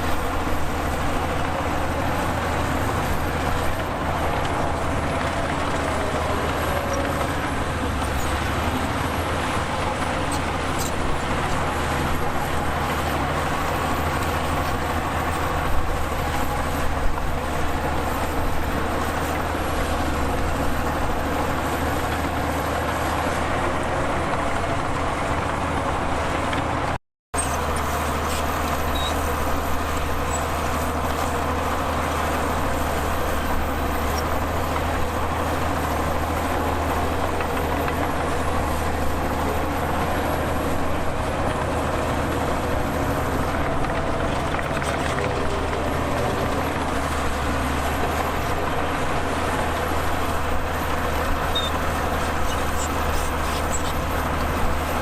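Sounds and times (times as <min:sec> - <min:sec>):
heavy machinery engine hum: 0:00.0 - 0:55.0.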